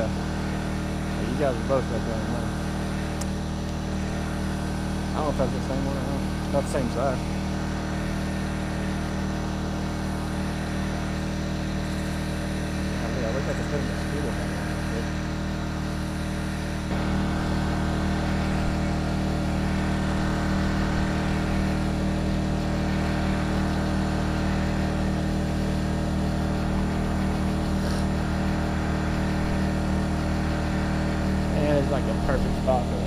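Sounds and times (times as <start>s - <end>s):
small boat engine humming: 0.0s - 33.0s.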